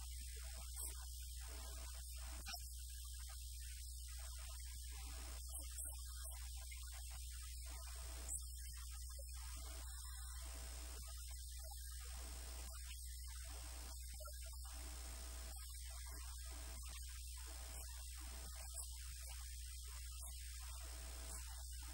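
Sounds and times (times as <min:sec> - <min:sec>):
electrical mains hum: 0:03.3 - 0:21.9.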